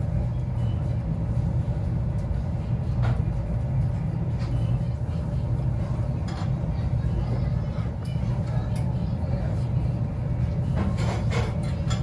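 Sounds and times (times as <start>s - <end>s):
low rumble of ventilation: 0.0s - 12.0s.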